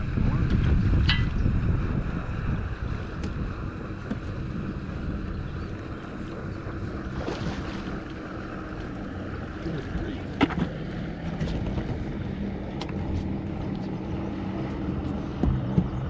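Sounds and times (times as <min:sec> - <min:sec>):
steady low hum: 0:00.0 - 0:16.0
wind buffeting microphone: 0:00.0 - 0:16.0.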